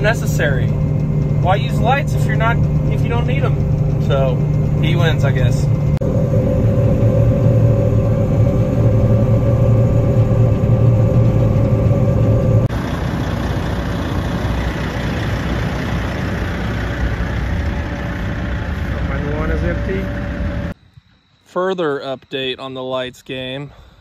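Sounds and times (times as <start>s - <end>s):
rough noisy engine: 0.0s - 20.8s
machinery engine humming: 0.0s - 24.0s.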